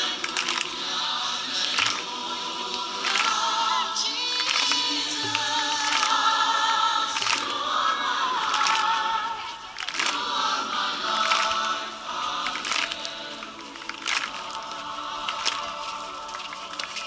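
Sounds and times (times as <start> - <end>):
choir singing over loudspeakers: 0.0 - 17.0.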